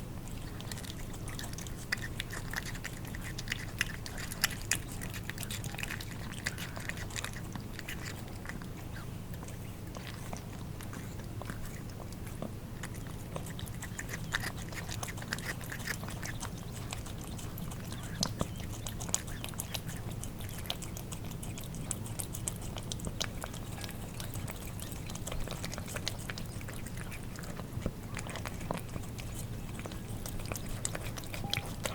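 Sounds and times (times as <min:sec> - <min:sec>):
cats licking and chewing food: 0:00.0 - 0:31.9
steady low hum: 0:00.0 - 0:31.9.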